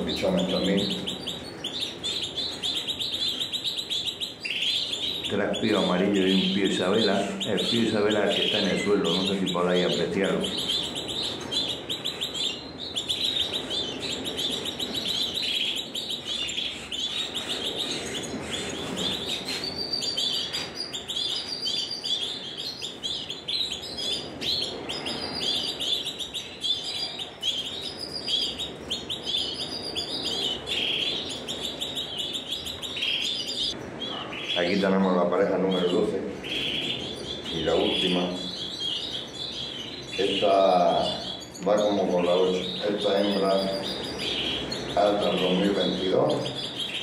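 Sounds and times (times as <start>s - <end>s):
canaries chirping: 0.0s - 47.0s.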